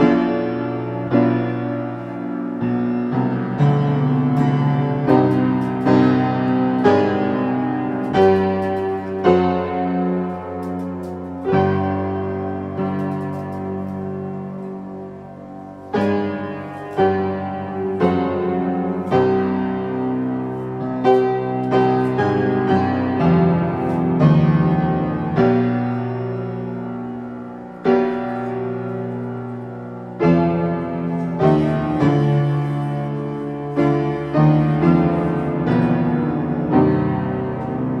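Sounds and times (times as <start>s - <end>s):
slow piano music: 0.0s - 38.0s.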